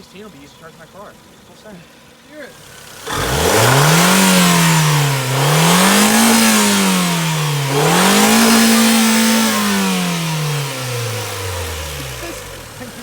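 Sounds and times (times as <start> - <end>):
car engine revving hard: 2.5 - 13.0.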